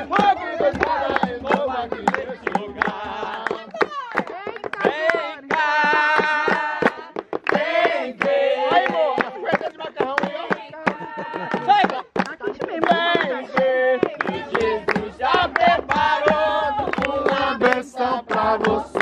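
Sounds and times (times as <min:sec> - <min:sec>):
group singing a praise song: 0:00.0 - 0:19.0.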